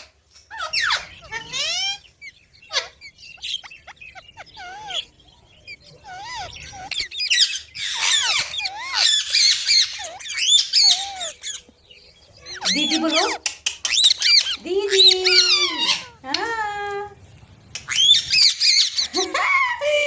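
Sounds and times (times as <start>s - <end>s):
parrot squawking: 0.5s - 11.7s, 12.3s - 16.4s, 17.8s - 19.4s.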